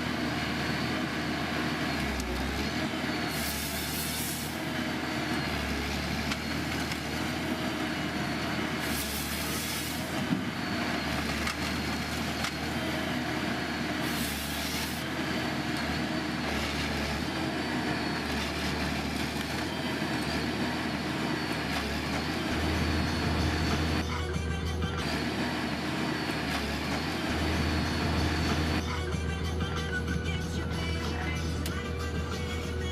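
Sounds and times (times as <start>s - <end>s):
heavy machinery running: 0.0s - 32.9s.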